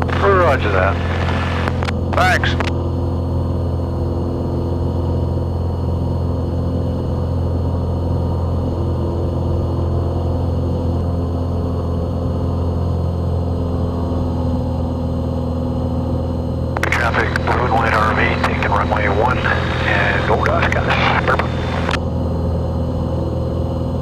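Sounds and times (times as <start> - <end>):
airplane engine and propeller drone: 0.0 - 24.0.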